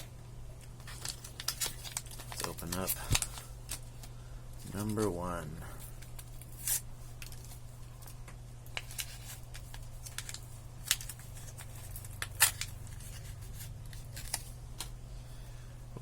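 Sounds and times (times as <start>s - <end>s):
steady low hum: 0.0s - 16.0s
wrapper crinkling and crackling: 0.6s - 5.2s, 5.8s - 14.6s.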